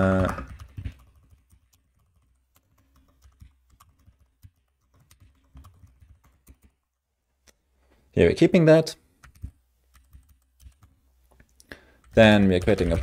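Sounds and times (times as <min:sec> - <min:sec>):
faint keyboard typing: 0:00.0 - 0:07.6, 0:09.0 - 0:13.0.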